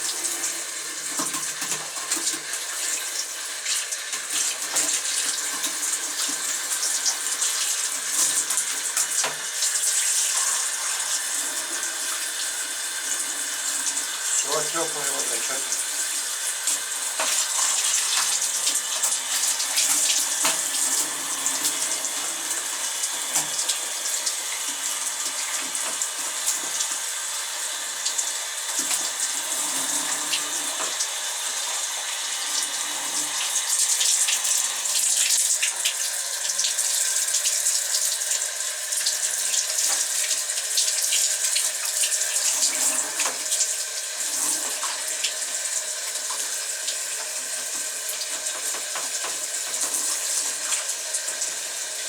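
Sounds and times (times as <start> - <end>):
tap water running and splashing: 0.0 - 52.0.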